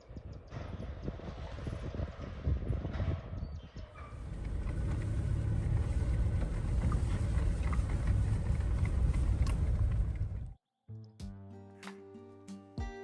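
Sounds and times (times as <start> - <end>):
low rumbling noise: 0.1 - 10.6.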